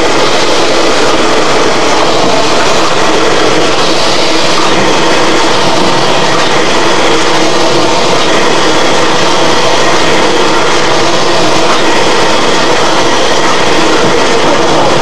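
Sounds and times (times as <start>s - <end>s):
printing machine running: 0.0s - 15.0s.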